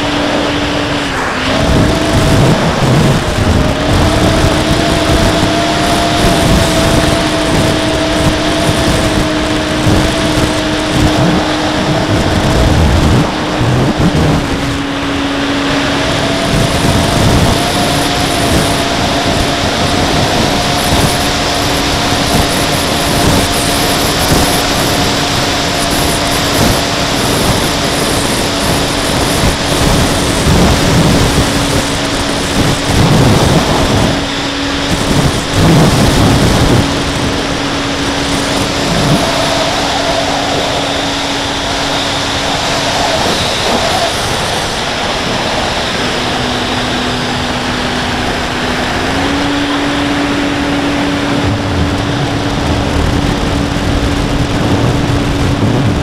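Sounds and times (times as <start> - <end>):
electric motor and propeller humming: 0.0 - 56.0
wind rush on microphone: 0.0 - 56.0.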